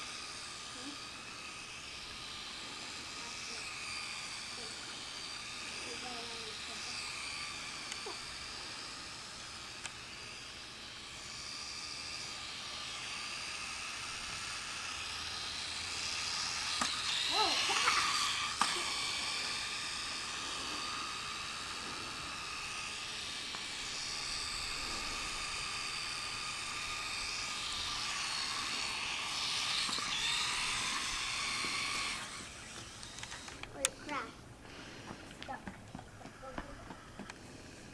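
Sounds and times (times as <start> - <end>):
small electric motor whining: 0.0 - 37.9.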